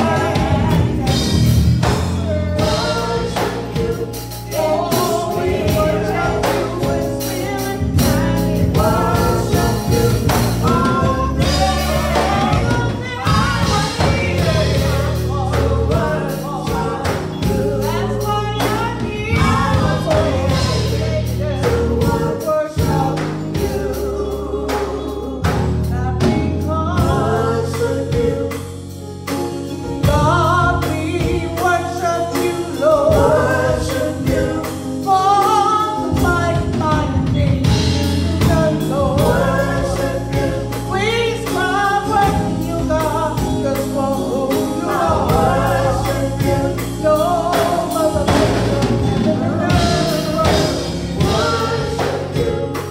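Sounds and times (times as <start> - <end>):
bass guitar: 0.0 - 52.9
drums: 0.0 - 52.9
group singing gospel: 0.0 - 52.9.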